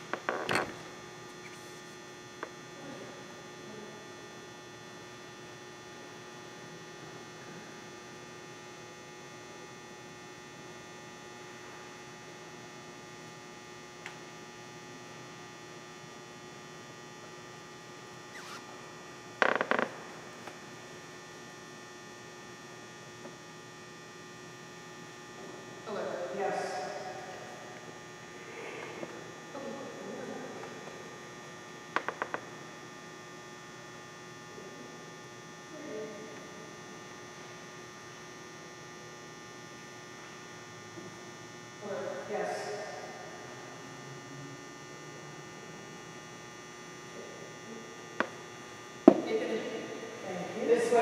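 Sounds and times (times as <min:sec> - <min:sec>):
faint constant tones: 0:00.0 - 0:51.0
steady hum: 0:00.0 - 0:51.0.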